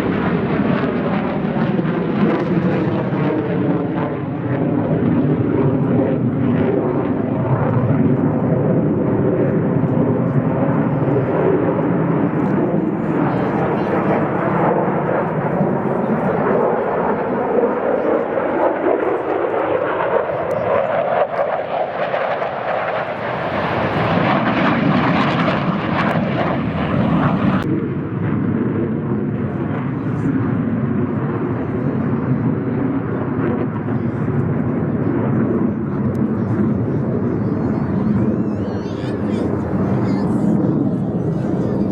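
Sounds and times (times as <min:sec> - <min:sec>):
airplane engine: 0:00.0 - 0:41.9.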